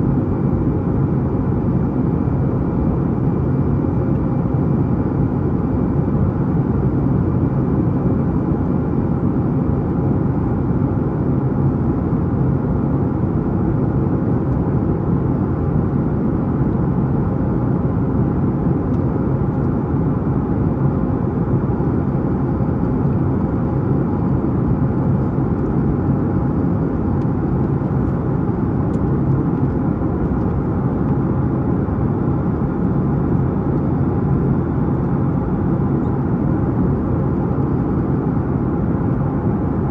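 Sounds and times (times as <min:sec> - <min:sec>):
jet engines at climb power: 0:00.0 - 0:39.9.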